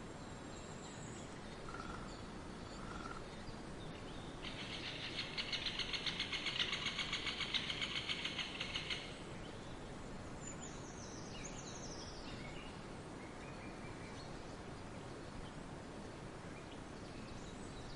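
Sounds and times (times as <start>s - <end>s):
forest background hiss: 0.0s - 17.9s.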